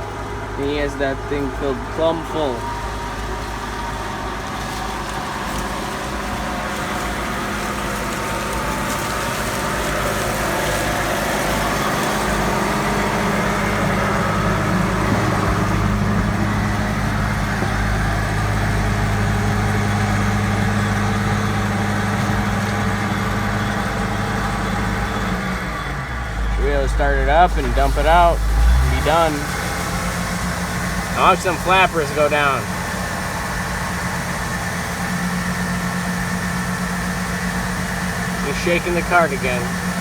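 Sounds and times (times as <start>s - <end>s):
diesel engine hum from inside cab: 0.0s - 40.0s.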